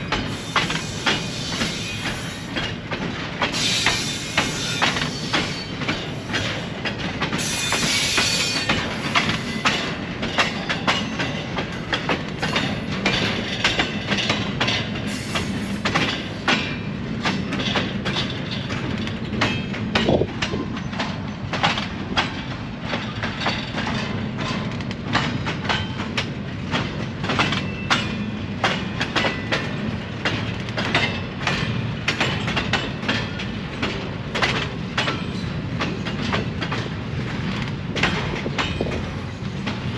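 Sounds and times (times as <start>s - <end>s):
train rolling past: 0.0s - 39.9s.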